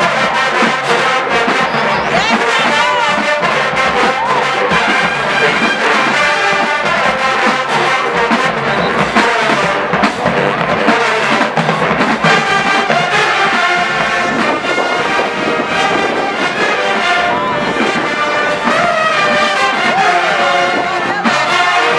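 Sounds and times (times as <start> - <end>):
marching band brass playing: 0.0 - 21.9.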